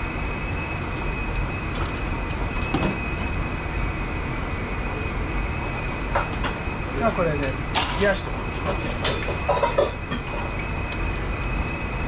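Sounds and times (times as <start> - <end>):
kitchen machinery rumble and hiss: 0.0 - 12.0
thin high whine: 0.0 - 12.0.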